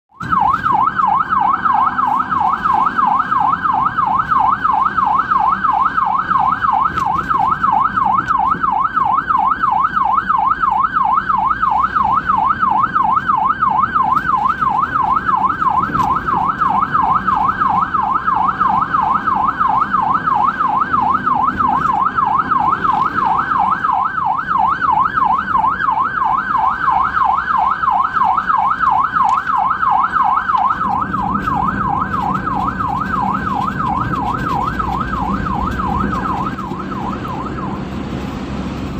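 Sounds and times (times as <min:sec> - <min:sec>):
ambulance siren yelping: 0:00.1 - 0:38.9.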